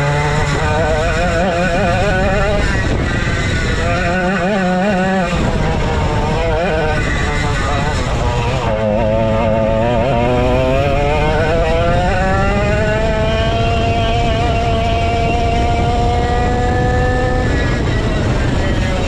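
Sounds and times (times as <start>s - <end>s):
kart engine revving: 0.0s - 19.0s.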